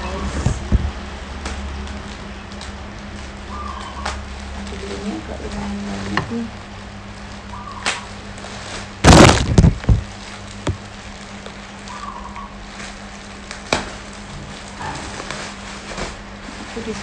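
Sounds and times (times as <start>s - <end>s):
plastic bag crinkling: 1.2s - 17.0s.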